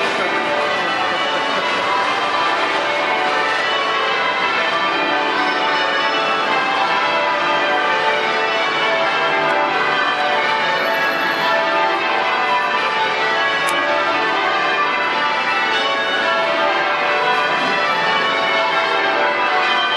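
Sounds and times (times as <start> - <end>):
church bells pealing: 0.0 - 19.9.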